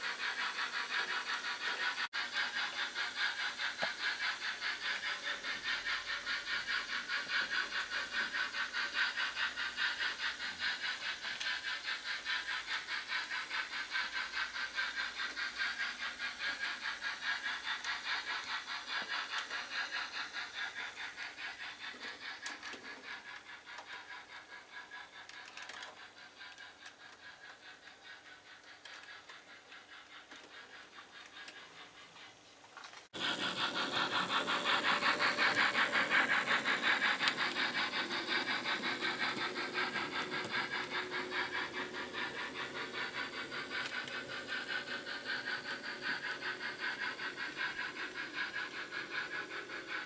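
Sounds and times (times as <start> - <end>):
model steam locomotive chuffing: 0.0 - 50.0.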